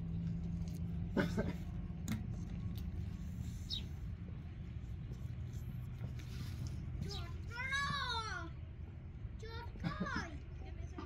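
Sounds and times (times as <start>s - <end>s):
low hum and rumble: 0.0s - 11.0s.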